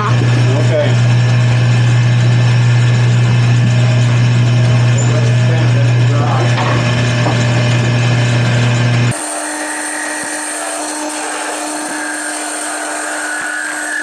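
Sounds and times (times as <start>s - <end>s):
lathe motor humming: 0.0s - 14.0s
tool scraping spinning wood: 0.0s - 14.0s.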